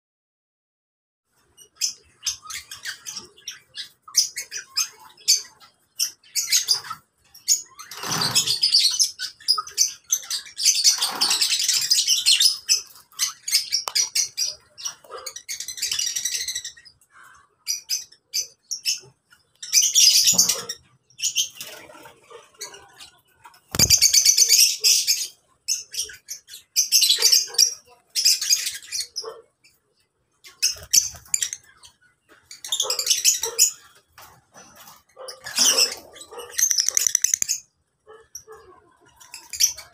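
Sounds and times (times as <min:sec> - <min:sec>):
birds chirping and screeching: 0:01.3 - 0:39.9.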